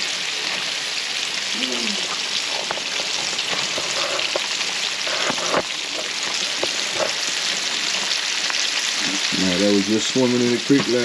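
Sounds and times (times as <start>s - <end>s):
food frying in hot grease: 0.0s - 11.0s.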